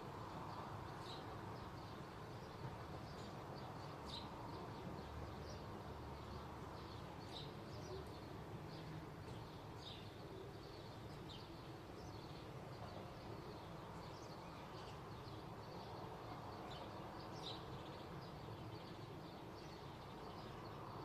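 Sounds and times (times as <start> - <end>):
low outdoor background hum: 0.0 - 21.0.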